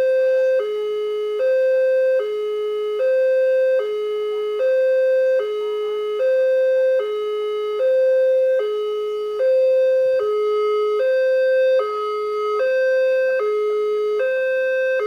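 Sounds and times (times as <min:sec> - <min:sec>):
two-tone crossing alarm: 0:00.0 - 0:15.0.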